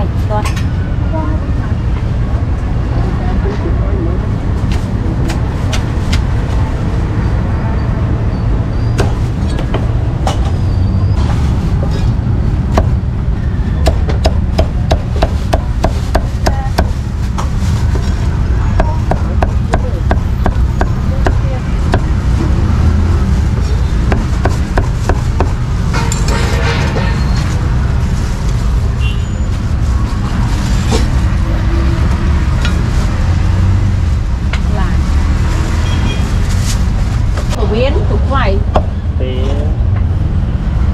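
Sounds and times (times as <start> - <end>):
low rumble of street traffic: 0.0 - 40.9
vehicle engines running: 0.0 - 40.9.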